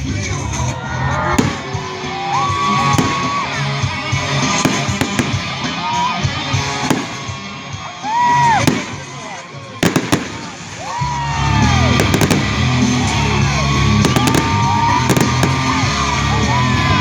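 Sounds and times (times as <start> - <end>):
music playing: 0.0 - 17.0
fireworks bangs: 0.3 - 17.0.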